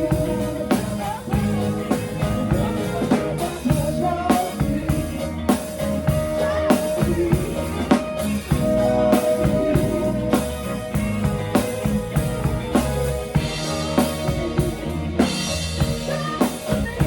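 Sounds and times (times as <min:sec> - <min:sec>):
drum kit beat: 0:00.0 - 0:17.0
guitar: 0:00.0 - 0:17.0.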